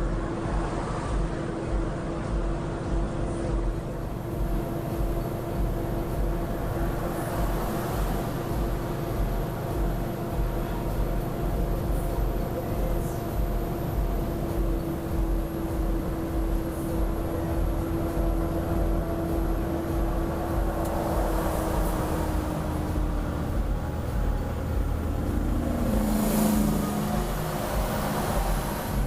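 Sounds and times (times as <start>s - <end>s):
steady hum: 0.0s - 29.0s
vehicle road and engine rumble: 0.0s - 29.0s.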